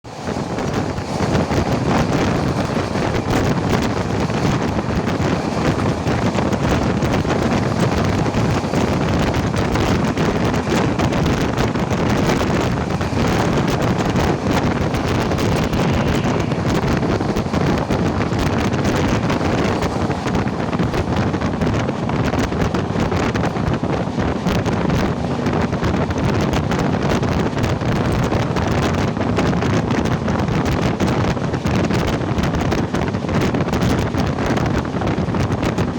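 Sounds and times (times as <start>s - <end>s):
train rumbling at speed: 0.0s - 35.9s
wind buffeting microphone: 0.0s - 35.9s.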